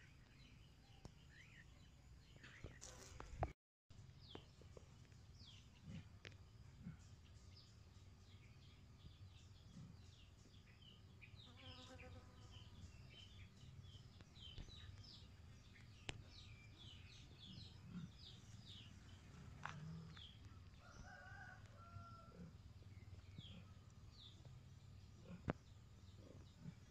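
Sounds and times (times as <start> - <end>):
small birds chirping: 0.0 - 3.5, 4.1 - 26.9.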